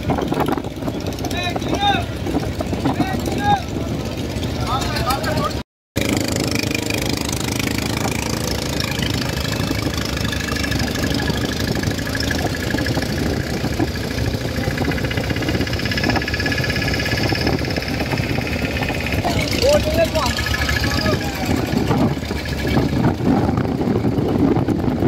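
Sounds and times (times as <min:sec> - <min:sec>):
boat engine throbbing: 0:00.0 - 0:25.0.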